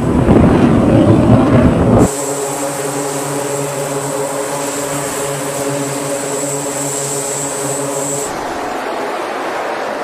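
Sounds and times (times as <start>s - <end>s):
broad rushing noise: 0.0s - 10.0s
turboprop engines droning: 0.0s - 10.0s.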